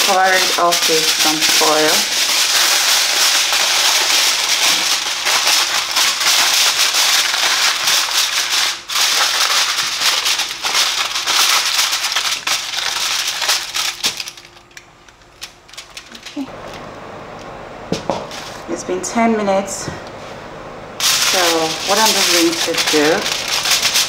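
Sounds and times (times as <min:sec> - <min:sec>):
aluminium foil crinkling: 0:00.0 - 0:16.5, 0:21.0 - 0:24.0.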